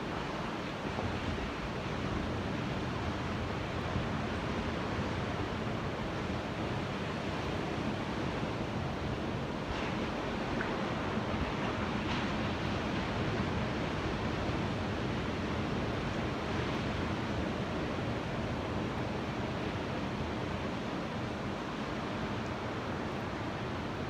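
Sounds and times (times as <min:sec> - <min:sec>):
ocean waves washing on shore: 0:00.0 - 0:24.0.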